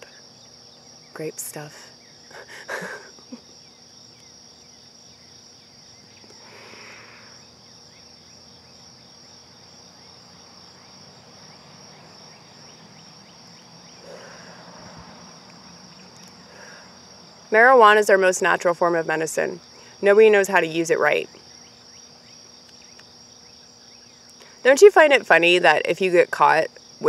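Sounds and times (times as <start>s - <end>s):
insect chorus: 0.0s - 27.0s.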